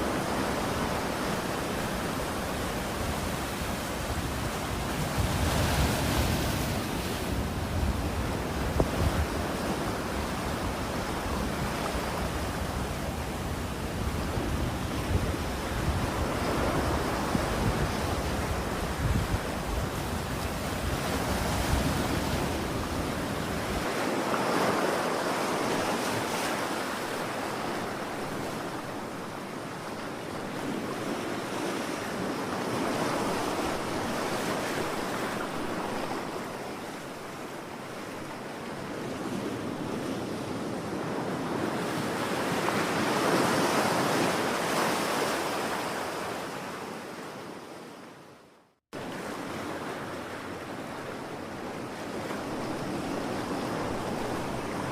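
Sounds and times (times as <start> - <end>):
ocean waves washing onto shore: 0.0 - 48.2, 49.0 - 54.9.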